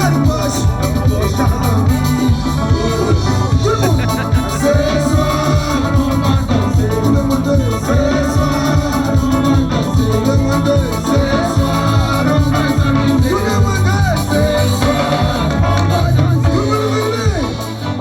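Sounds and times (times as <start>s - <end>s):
upbeat latin-style song: 0.0s - 18.0s.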